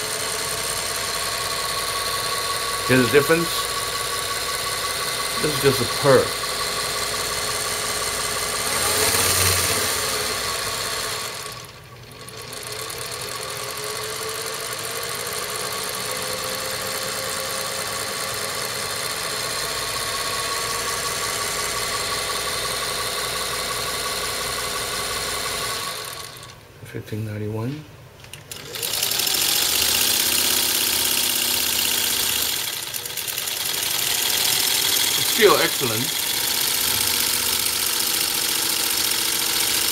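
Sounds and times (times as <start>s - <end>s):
sewing machine motor humming: 0.0s - 26.6s, 28.2s - 39.9s.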